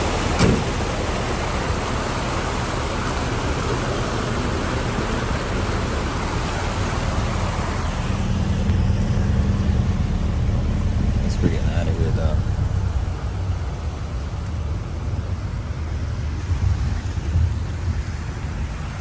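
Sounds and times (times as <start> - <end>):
floodwater rushing: 0.0 - 19.0
vehicle engine running: 0.0 - 19.0.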